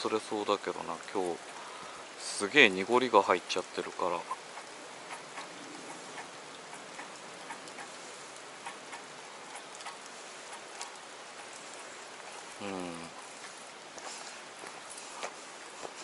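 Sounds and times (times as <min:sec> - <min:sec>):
water drops pattering on stream: 0:00.0 - 0:16.0.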